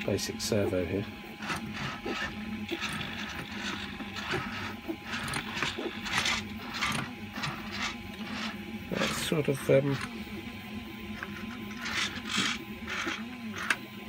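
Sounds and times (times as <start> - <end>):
small servos whirring: 0.0 - 14.0.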